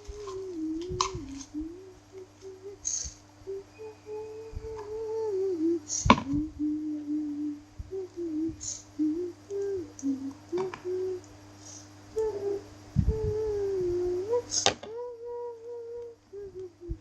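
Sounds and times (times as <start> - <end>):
person humming a tune: 0.0 - 17.0
steady low hum: 0.0 - 17.0.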